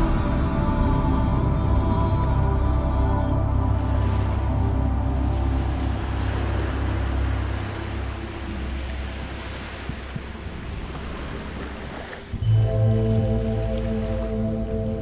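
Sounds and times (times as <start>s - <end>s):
ambient music: 0.0s - 15.0s
low held drone: 0.0s - 15.0s
steady rushing noise: 0.0s - 15.0s.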